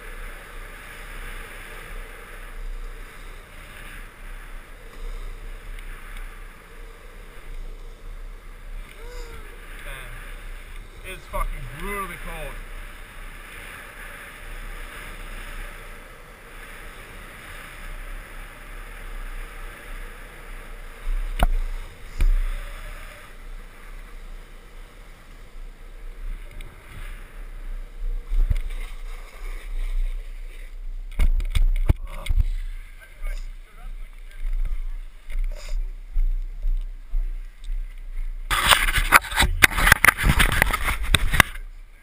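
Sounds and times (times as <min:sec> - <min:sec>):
longboard wheels rolling on asphalt: 0:00.0 - 0:42.0
wind rushing over microphone: 0:00.0 - 0:42.0.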